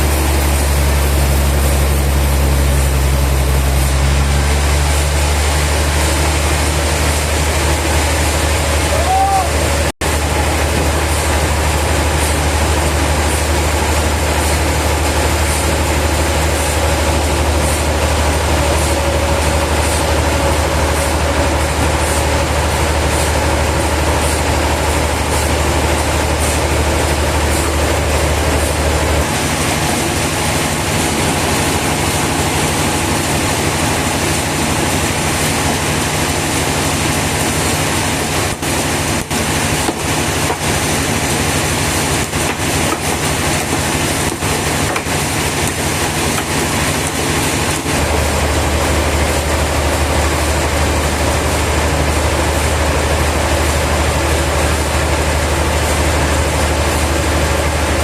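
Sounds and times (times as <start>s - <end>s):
deep machine hum: 0.0s - 58.0s
sawmill machinery running: 0.0s - 58.0s.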